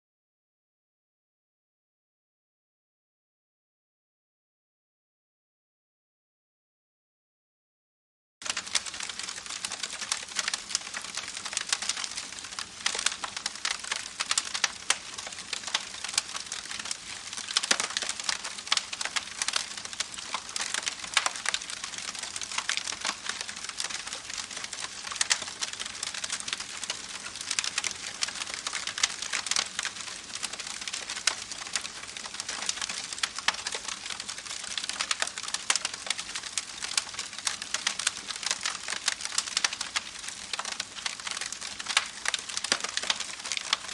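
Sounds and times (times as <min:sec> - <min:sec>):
campfire crackling: 0:08.4 - 0:43.9.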